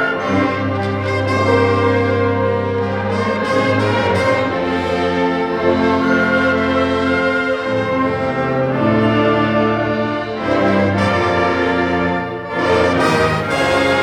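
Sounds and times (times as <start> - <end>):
wind ensemble playing chords: 0.0 - 14.0.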